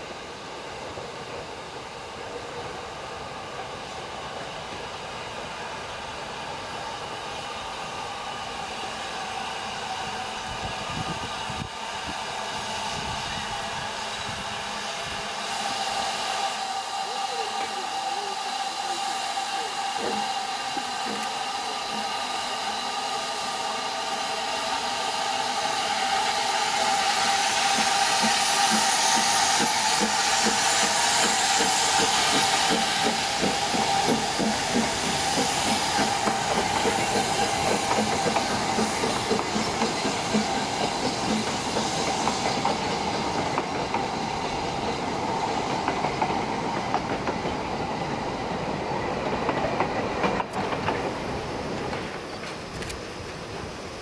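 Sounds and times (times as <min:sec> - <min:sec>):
steam train hiss: 0:00.0 - 0:54.0.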